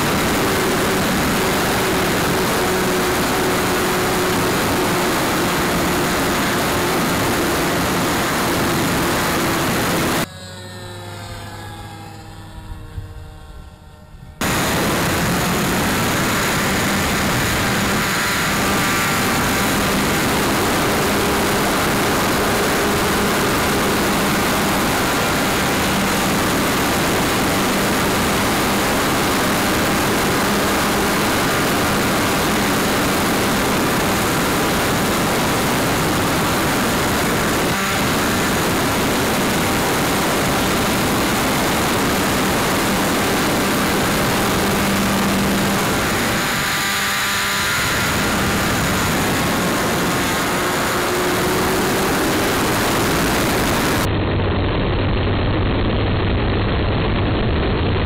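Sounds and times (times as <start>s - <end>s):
loud wind rush: 0.0s - 10.3s, 12.7s - 58.0s
model airplane motor and propeller: 0.0s - 54.1s.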